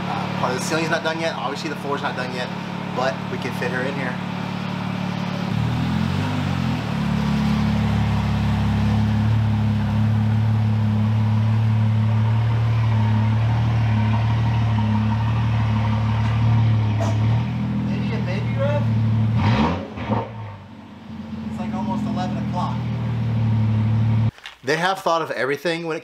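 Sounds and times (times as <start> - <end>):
car engine idling: 0.0 - 24.3.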